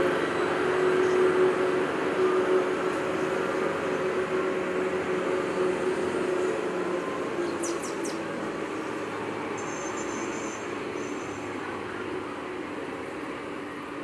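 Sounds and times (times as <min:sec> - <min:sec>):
train coaches rumbling over tracks: 0:00.0 - 0:14.0.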